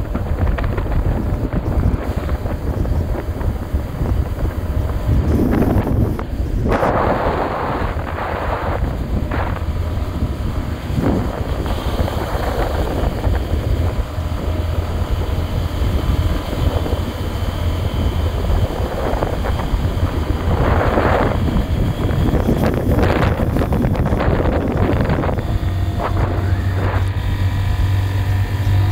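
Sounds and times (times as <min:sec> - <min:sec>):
motorcycle rumble: 0:00.0 - 0:28.9
wind rushing over microphone: 0:00.0 - 0:28.9.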